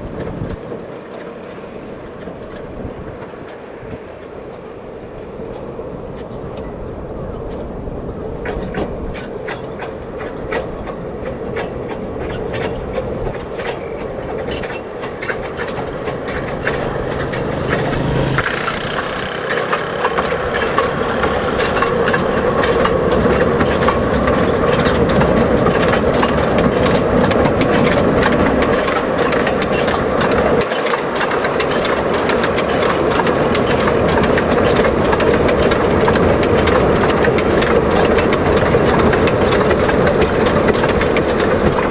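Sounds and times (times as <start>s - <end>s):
steady train drone: 0.0s - 41.9s
train wheels clicking over rail joints: 0.0s - 41.9s.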